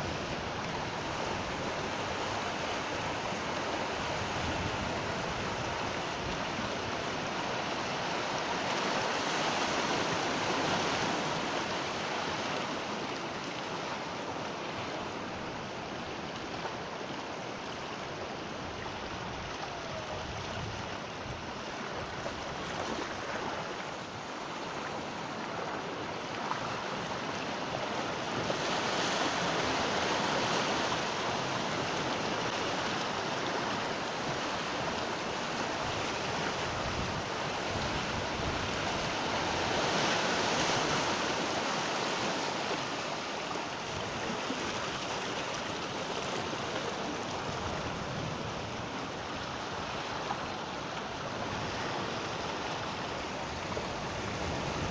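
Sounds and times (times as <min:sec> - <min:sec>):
sea waves washing ashore: 0:00.0 - 0:54.9.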